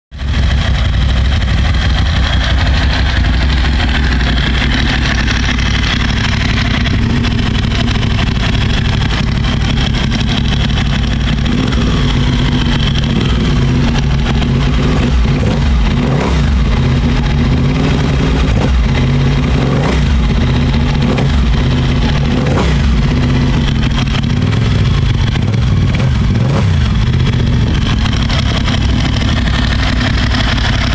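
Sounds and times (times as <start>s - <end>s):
motorcycle engine idling: 0.1s - 30.9s
engine throttle blips: 0.2s - 30.9s.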